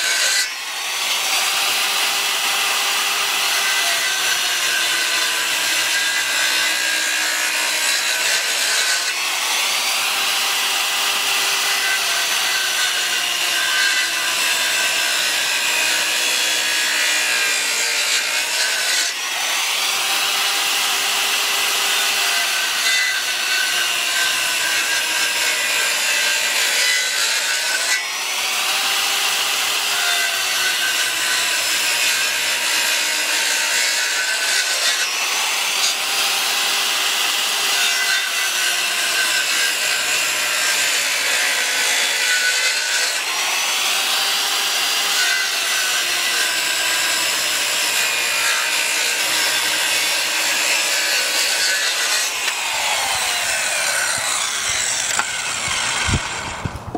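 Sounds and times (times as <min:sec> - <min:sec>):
circular saw cutting wood: 0:00.0 - 0:56.9.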